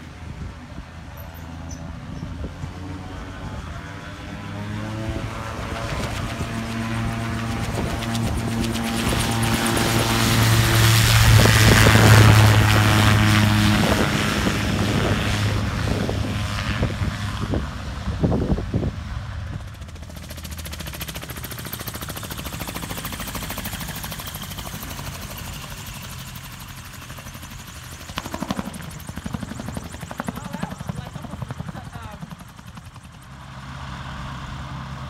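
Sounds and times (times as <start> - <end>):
propeller aircraft engine humming: 0.0 - 35.0.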